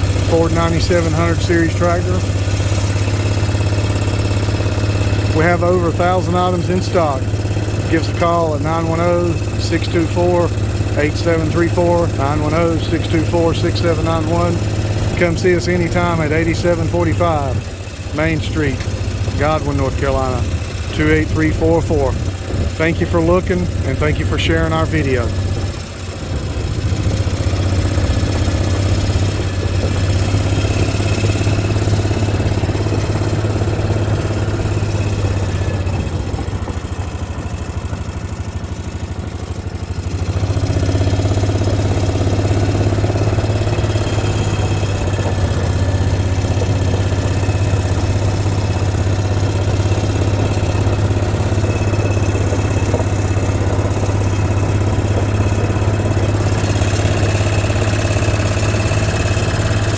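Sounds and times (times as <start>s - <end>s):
vehicle engine humming: 0.0s - 59.9s.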